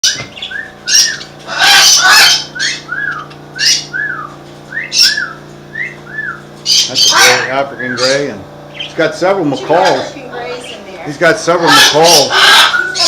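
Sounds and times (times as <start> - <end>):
bird chirping: 0.0 - 10.9, 11.6 - 13.0
parrots squawking: 0.0 - 13.0
steady low hum: 0.0 - 13.0.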